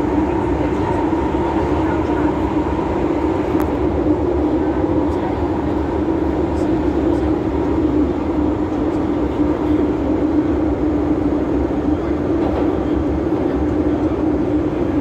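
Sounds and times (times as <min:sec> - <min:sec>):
train steady drone: 0:00.0 - 0:15.0
train wheels rumbling on rails: 0:00.0 - 0:15.0.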